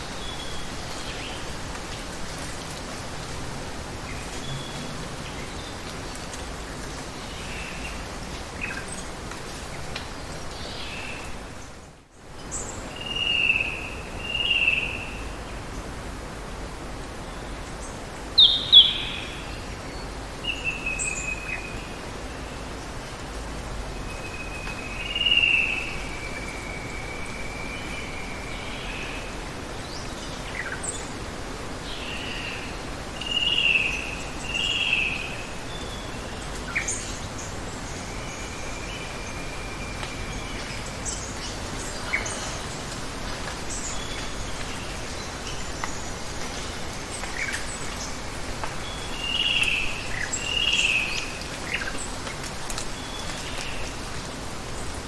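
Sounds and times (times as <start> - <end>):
running water hiss: 0.0 - 55.0.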